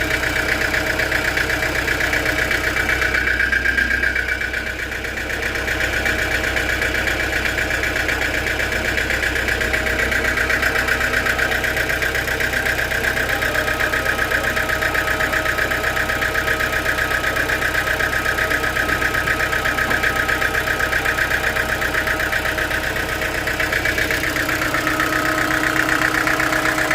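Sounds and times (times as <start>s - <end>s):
sawmill machinery whining: 0.0s - 26.9s.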